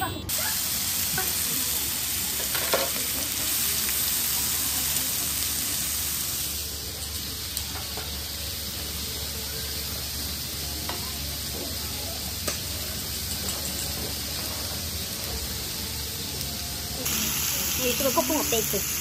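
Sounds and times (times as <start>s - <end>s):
meat sizzling on a grill: 0.3s - 19.0s.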